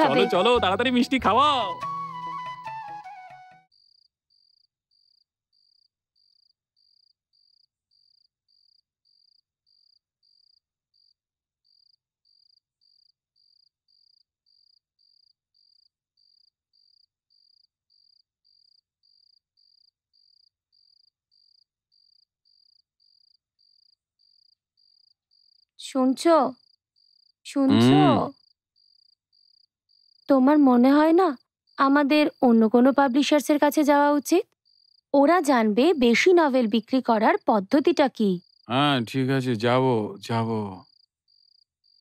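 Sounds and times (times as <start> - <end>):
faint cricket chirping: 3.7 - 42.0.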